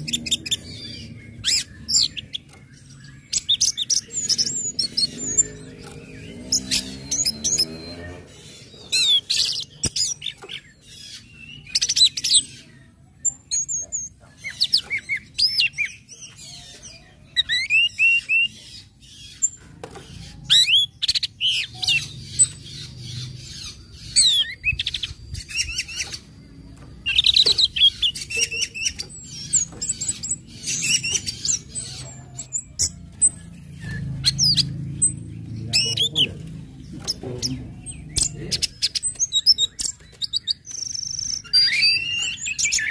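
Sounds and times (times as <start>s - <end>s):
bird chipping and whistling: 0.0s - 36.4s, 37.0s - 42.9s.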